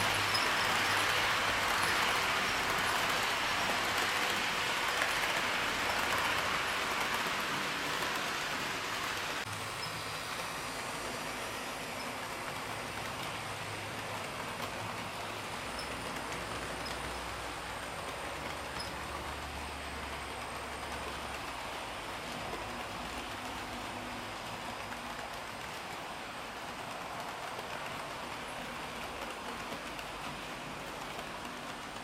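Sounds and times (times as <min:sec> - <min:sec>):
model train wheels on rails: 0:00.0 - 0:32.0.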